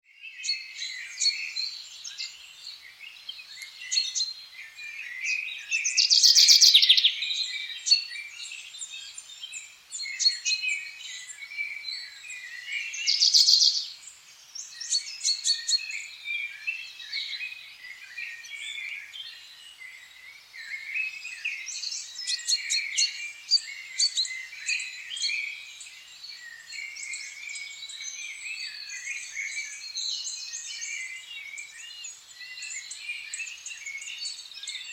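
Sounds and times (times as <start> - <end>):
birds chirping and warbling: 0.2 - 34.9.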